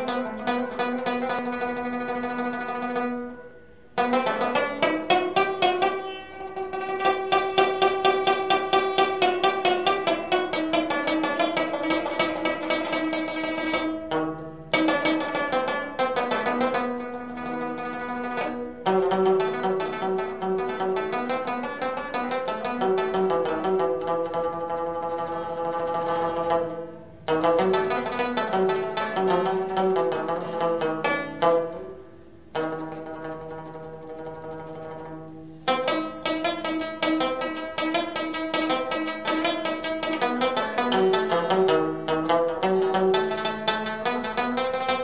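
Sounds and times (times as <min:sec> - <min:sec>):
plucked rabab melody: 0:00.0 - 0:45.0.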